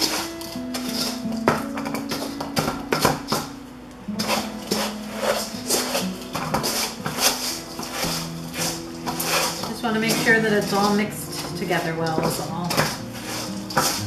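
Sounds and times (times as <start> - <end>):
spoon scraping metal bowl: 0.0 - 3.5, 4.1 - 14.0
background music with held notes: 0.0 - 14.0.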